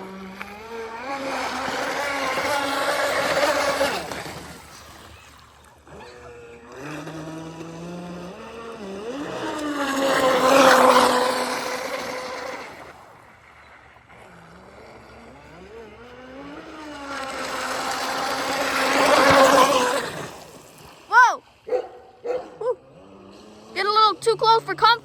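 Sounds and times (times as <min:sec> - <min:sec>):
toy boat motor whining: 0:00.0 - 0:25.0.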